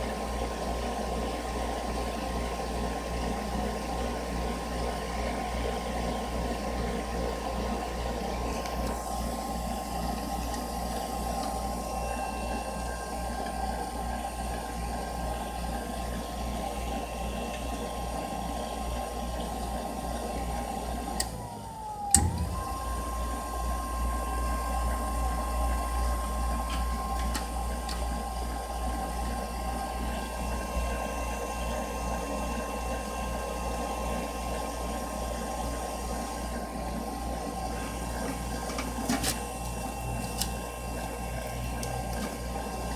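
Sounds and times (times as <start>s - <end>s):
furnace whirring and whining: 0.0s - 42.9s.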